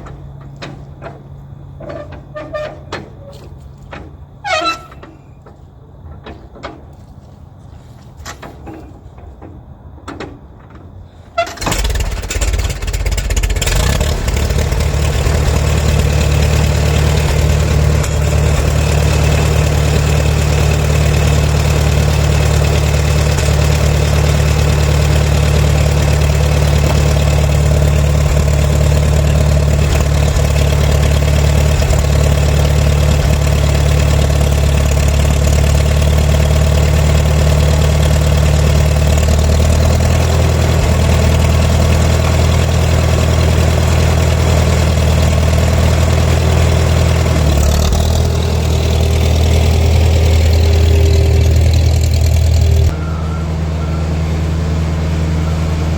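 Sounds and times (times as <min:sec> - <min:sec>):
tractor engine starting and idling: 0:00.0 - 0:07.2, 0:08.0 - 0:55.9.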